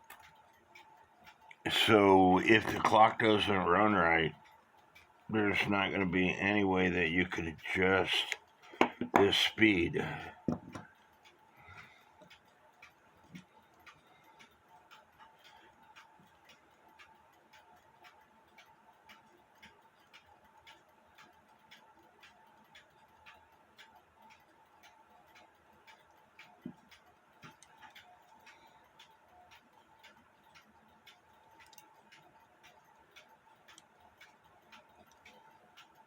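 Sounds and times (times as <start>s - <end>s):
clock ticking faintly: 0.0s - 36.0s.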